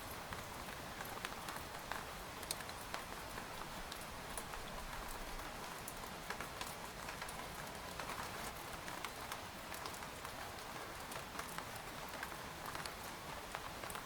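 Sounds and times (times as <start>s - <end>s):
rain falling on a tent: 0.0s - 14.0s.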